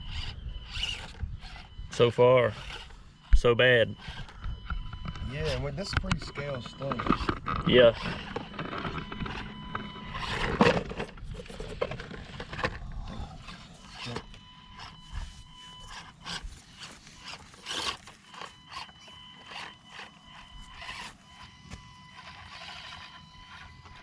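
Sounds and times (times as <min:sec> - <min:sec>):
high electric motor whine: 0:00.0 - 0:24.0
tyres clicking on rough ground: 0:00.1 - 0:24.0.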